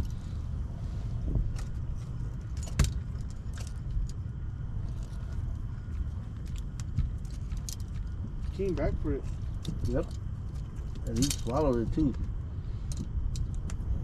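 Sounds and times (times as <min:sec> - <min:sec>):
low rumble: 0:00.0 - 0:14.0
fishing gear clicks and rattles: 0:01.5 - 0:14.0.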